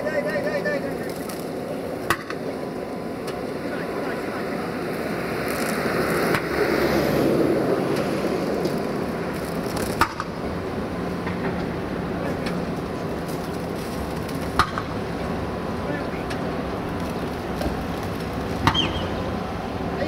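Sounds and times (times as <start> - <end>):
tram rumbling: 0.0 - 20.0.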